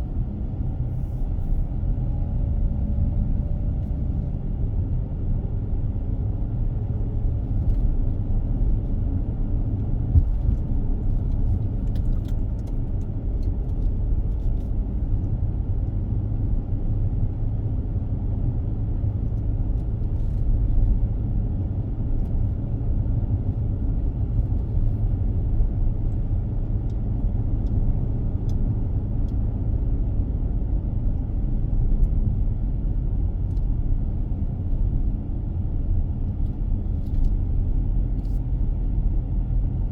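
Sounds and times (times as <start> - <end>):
car driving along road: 0.0 - 39.9.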